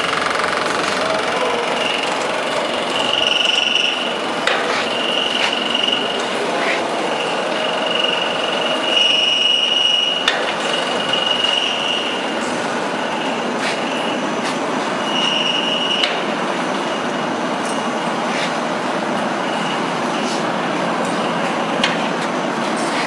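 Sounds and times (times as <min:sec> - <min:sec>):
high machine squeal: 0:00.0 - 0:18.6, 0:19.4 - 0:21.7
machinery running: 0:00.0 - 0:23.0.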